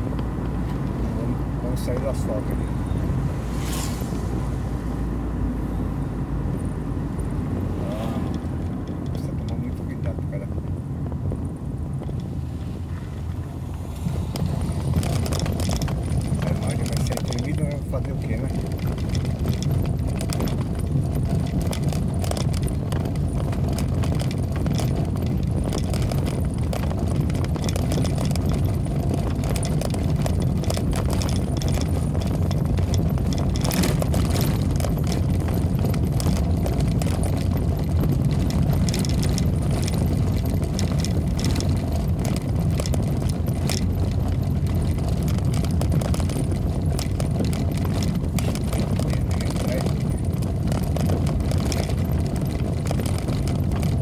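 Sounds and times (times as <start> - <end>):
car engine and tyres rumbling: 0.0 - 54.0
small rattles and knocks: 8.2 - 12.4, 14.2 - 54.0.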